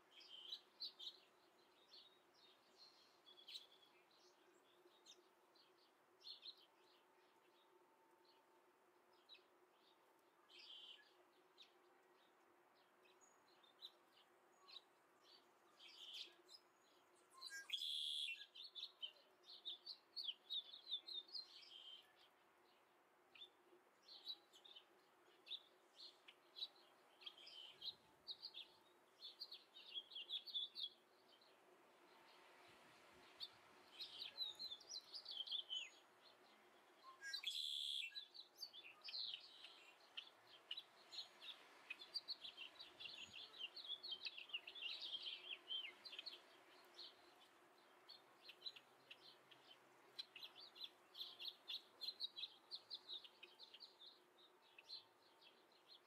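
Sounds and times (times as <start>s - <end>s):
small birds twittering: 0.0s - 8.5s, 9.1s - 56.0s.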